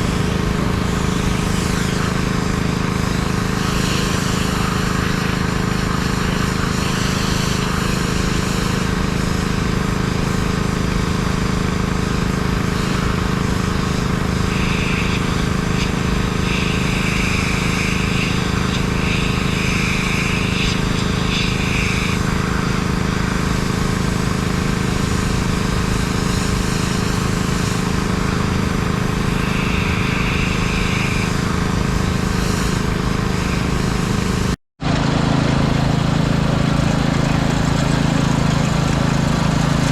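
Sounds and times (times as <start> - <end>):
engine droning steadily: 0.0 - 39.9
hiss: 0.8 - 34.6.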